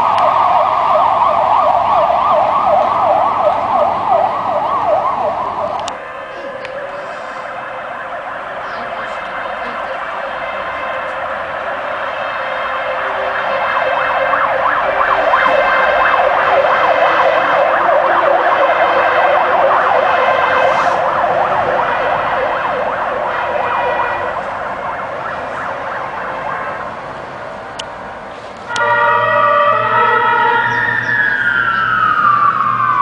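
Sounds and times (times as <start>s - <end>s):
fire engine siren: 0.0s - 33.0s.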